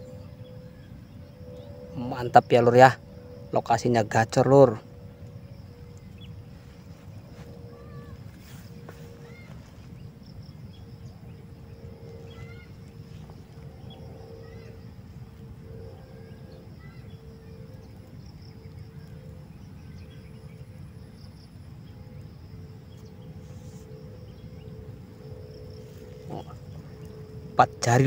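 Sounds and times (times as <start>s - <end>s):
faint chirps: 0.0s - 28.0s
insects trilling: 0.0s - 28.0s.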